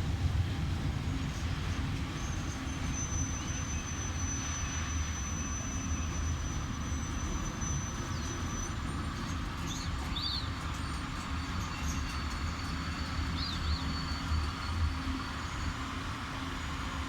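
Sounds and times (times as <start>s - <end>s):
passenger train rolling by: 0.0s - 17.0s.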